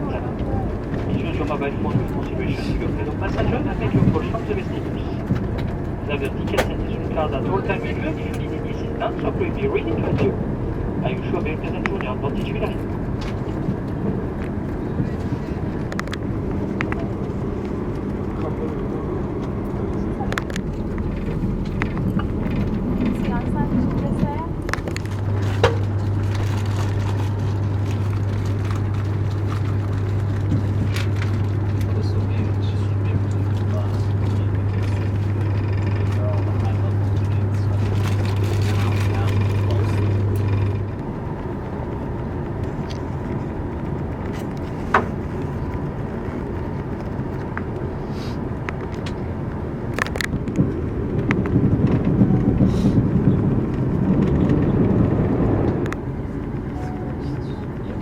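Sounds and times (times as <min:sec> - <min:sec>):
train carriage hum and rumble: 0:00.0 - 0:58.0.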